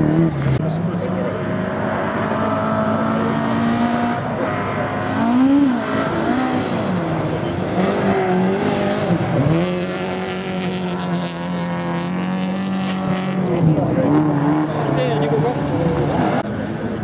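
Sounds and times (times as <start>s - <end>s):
rally car engine racing: 0.0s - 17.0s.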